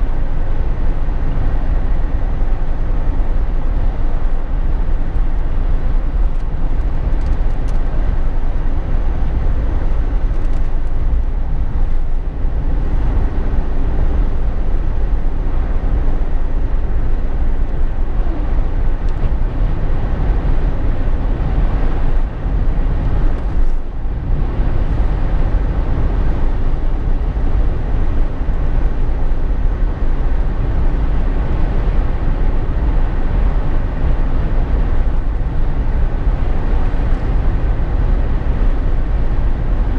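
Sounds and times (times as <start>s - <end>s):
car engine rumble inside cabin: 0.0s - 39.9s.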